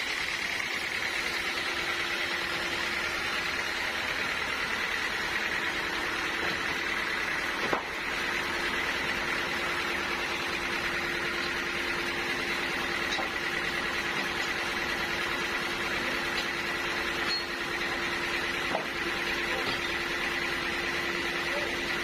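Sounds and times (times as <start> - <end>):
sawmill machinery hum: 0.0 - 22.0.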